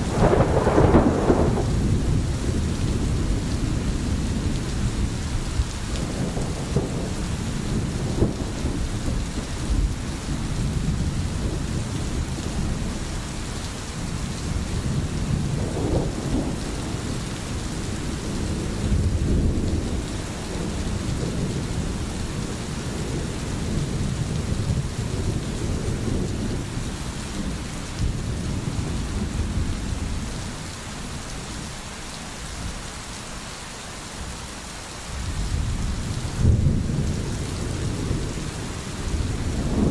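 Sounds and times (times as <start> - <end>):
low thunder rumbling: 0.0 - 31.6, 35.1 - 39.9
rain hissing: 0.0 - 39.9.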